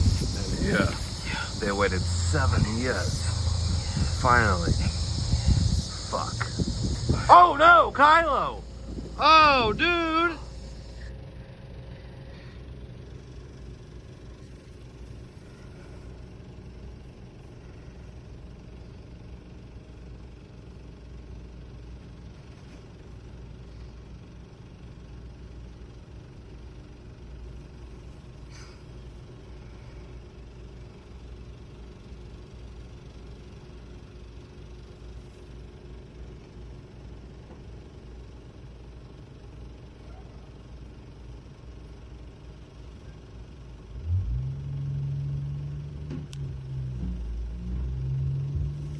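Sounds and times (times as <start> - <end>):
bus engine running: 0.0 - 48.9.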